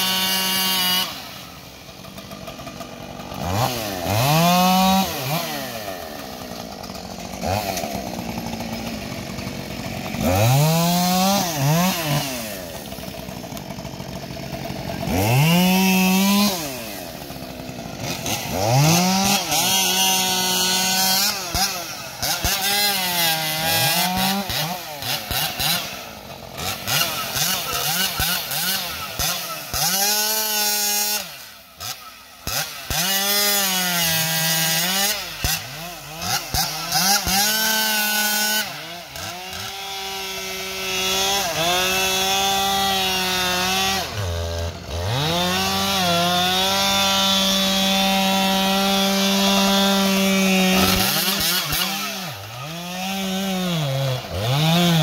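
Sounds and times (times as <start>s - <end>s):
chainsaw revving and cutting wood: 0.0s - 55.0s.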